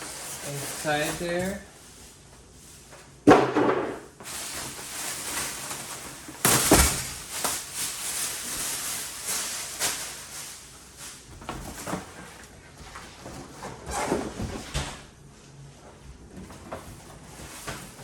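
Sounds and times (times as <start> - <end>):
cardboard and plastic rustling: 0.0 - 3.3, 4.1 - 15.1, 15.8 - 18.0.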